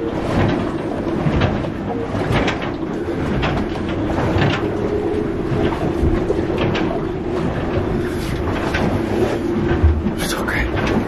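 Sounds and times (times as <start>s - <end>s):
storm wind buffeting a boat: 0.0s - 11.0s.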